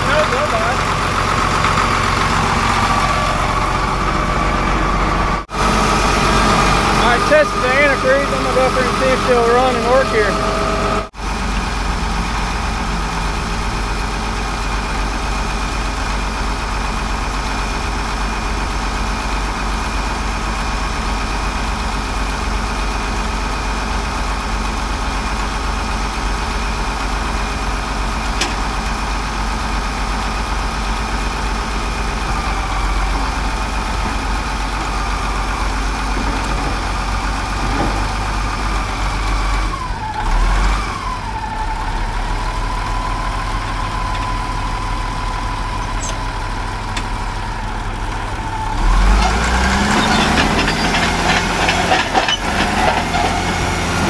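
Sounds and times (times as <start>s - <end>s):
dozer diesel engine running: 0.0s - 54.0s.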